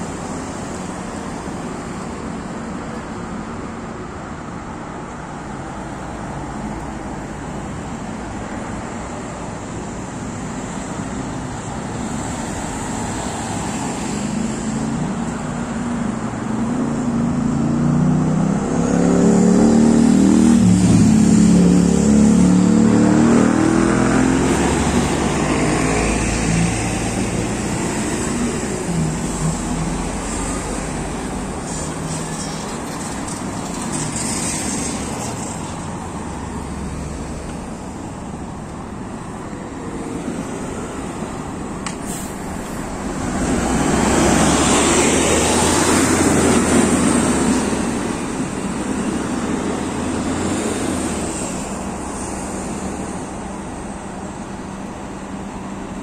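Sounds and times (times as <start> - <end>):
bus driving past: 0.0 - 56.0
steady road traffic: 0.0 - 56.0.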